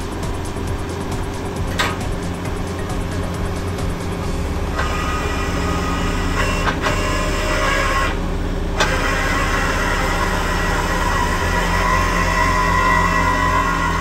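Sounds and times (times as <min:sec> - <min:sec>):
heavy machinery engine running: 0:00.0 - 0:14.0
rough mechanical noise: 0:00.0 - 0:14.0.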